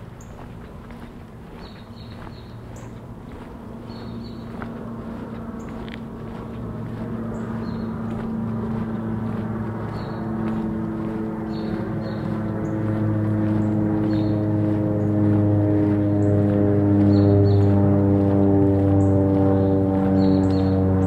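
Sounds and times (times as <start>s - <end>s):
motor droning: 0.0s - 21.0s.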